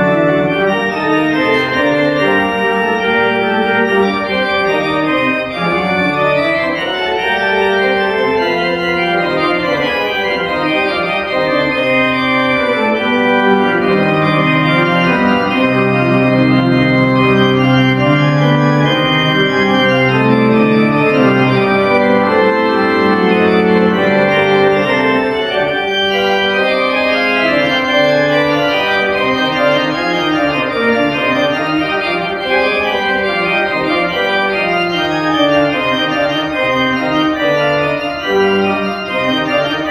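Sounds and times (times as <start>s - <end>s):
pipe organ chords: 0.0s - 39.9s.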